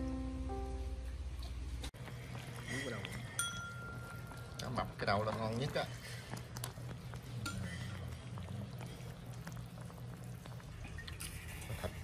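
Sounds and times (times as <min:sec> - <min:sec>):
steady low hum: 0:00.0 - 0:12.0
broth bubbling: 0:01.2 - 0:12.0
ladle stirring and clicking: 0:02.0 - 0:12.0.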